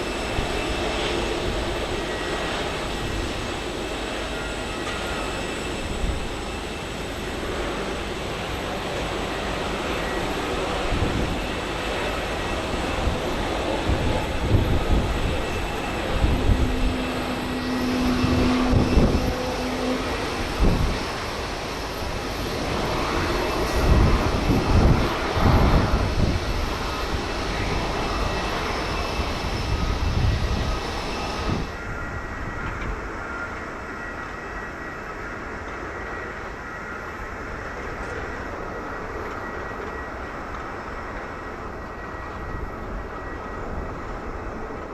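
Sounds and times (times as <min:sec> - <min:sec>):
jet engine rumbling: 0:00.0 - 0:44.9
jet engine steady noise: 0:00.0 - 0:44.9.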